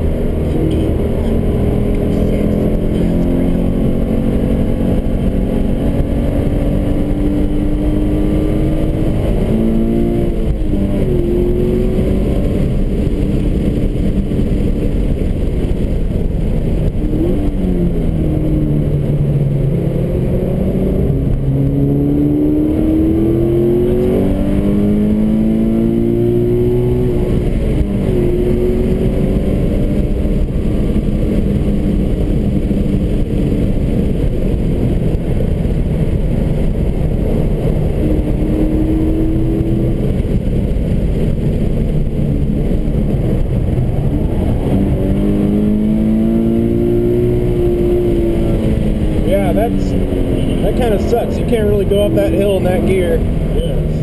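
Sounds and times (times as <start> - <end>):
car engine accelerating: 0.0 - 54.0
road and tyre noise: 0.0 - 54.0.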